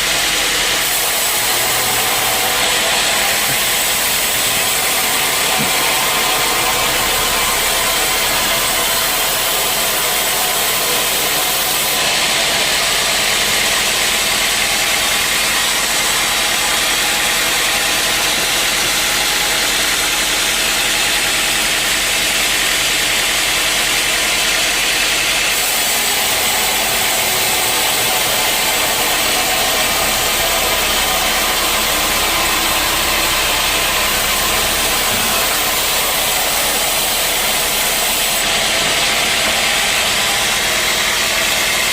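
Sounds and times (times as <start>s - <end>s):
hissing machinery: 0.0s - 41.9s
sawmill machinery running: 0.0s - 41.9s.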